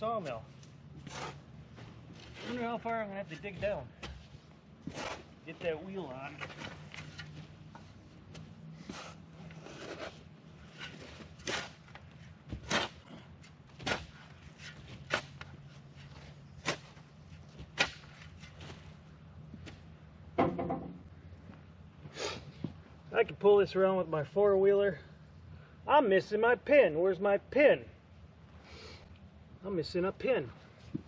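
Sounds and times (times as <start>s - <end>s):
steady low hum: 0.0s - 26.7s.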